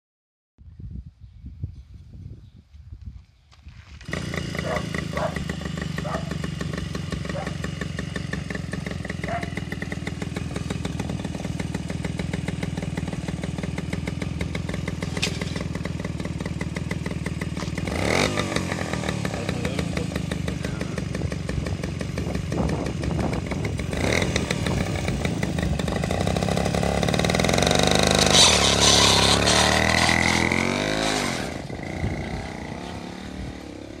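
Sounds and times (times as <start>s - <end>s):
small engine idling and revving: 3.8s - 34.0s.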